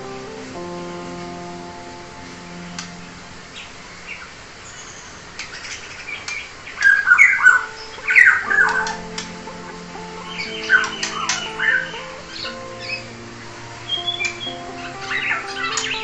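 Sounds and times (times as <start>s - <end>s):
bird chirping: 2.6s - 16.0s.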